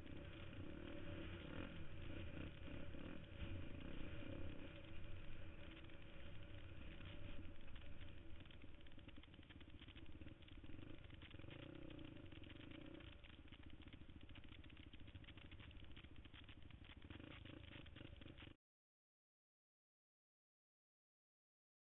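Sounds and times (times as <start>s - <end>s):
bike rattling over rough ground: 0.0s - 18.6s
dirt bike engine running: 0.0s - 18.6s.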